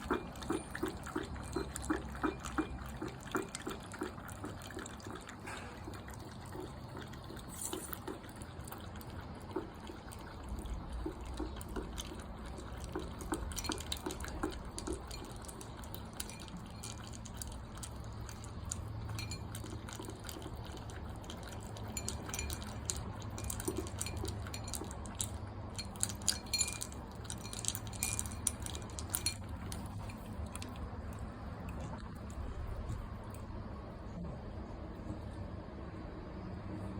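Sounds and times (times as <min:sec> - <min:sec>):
dog lapping water: 0:00.0 - 0:33.7.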